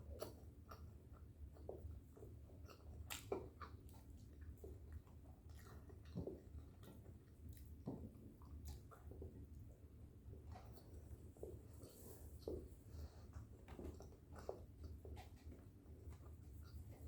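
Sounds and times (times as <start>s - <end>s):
person chewing and smacking: 0.0s - 17.0s.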